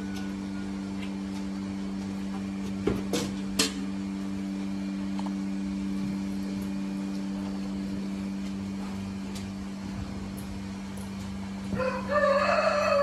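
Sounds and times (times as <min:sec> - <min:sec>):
electric machinery hum: 0:00.0 - 0:13.0.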